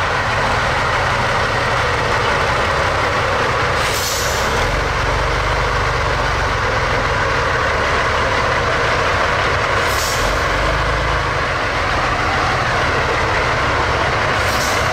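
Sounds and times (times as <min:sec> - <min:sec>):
truck diesel engine running: 0:00.0 - 0:14.9.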